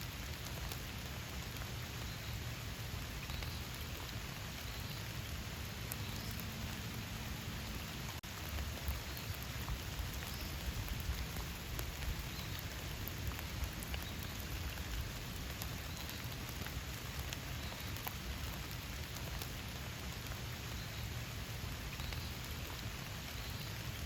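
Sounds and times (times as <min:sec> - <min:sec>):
rain hissing in forest: 0:00.0 - 0:24.0
raindrops ticking: 0:00.0 - 0:24.0.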